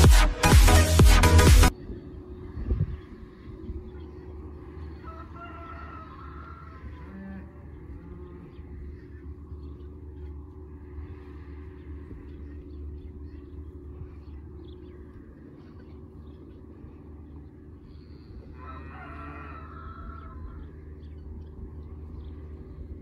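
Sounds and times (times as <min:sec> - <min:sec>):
distant skid steer engine running: 0:00.0 - 0:23.0
bird crowing: 0:02.2 - 0:23.0.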